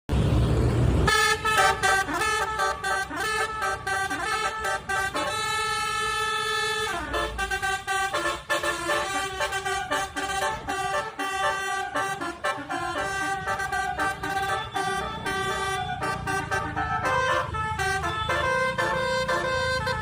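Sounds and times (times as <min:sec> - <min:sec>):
multi-tone vehicle horn melody: 0:01.0 - 0:20.0.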